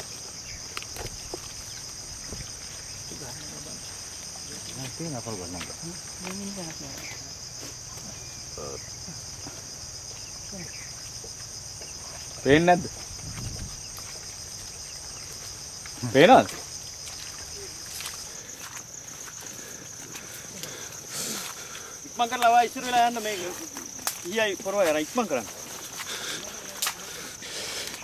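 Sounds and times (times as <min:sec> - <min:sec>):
insects chorus: 0:00.0 - 0:28.0.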